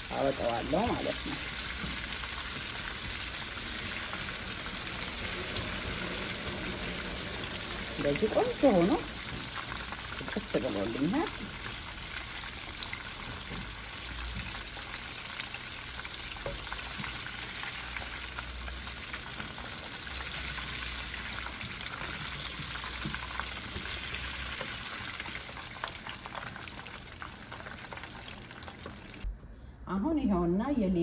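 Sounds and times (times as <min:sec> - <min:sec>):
food frying in hot oil: 0:00.0 - 0:29.3.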